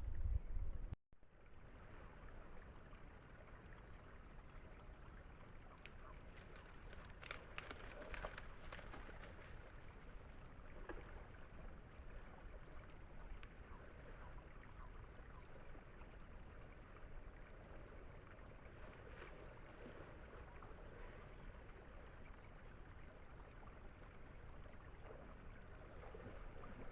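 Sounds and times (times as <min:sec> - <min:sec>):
faint running water: 0:01.2 - 0:26.9.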